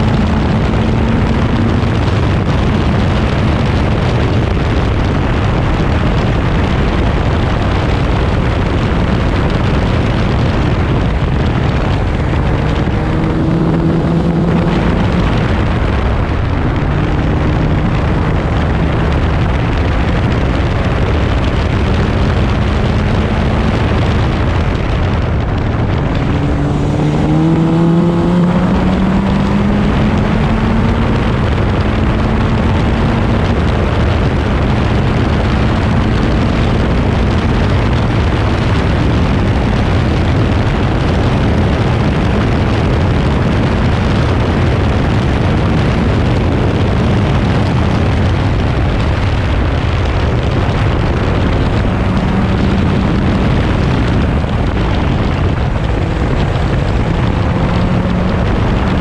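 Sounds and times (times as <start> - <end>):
racing car engine: 0.0 - 59.0
wind rush: 0.0 - 59.0.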